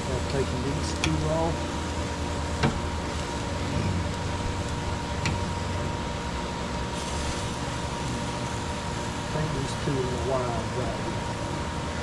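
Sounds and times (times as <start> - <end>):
low mechanical hum with hiss: 0.0 - 12.0.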